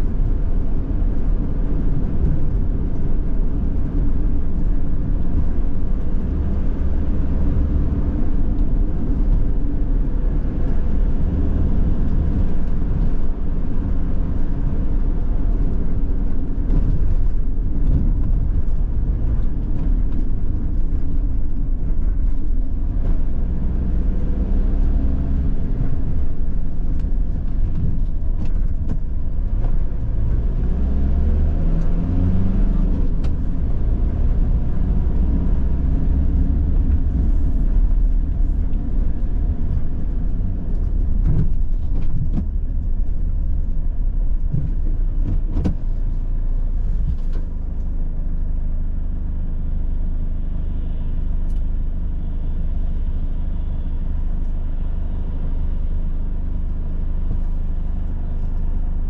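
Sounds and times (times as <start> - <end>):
van engine and tyres rumbling: 0.0 - 59.0.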